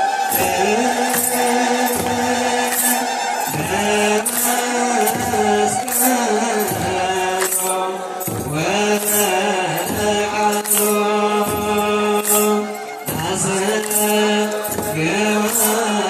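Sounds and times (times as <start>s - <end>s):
group of voices chanting: 0.0s - 14.0s
high shimmering beat: 0.0s - 16.0s.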